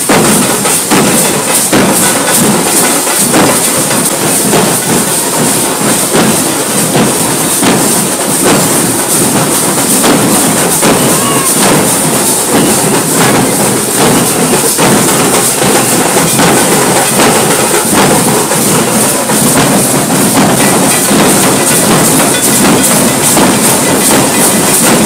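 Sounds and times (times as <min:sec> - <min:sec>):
hand cymbals clashing: 0:00.0 - 0:25.0
large drums beaten with sticks: 0:00.0 - 0:25.0.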